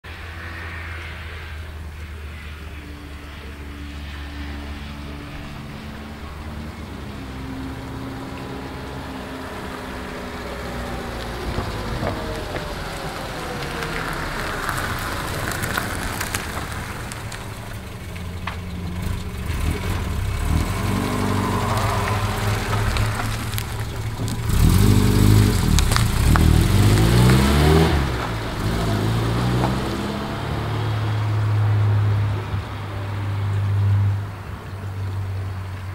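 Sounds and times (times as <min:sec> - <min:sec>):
car engine driving by revving: 0:00.0 - 0:35.9.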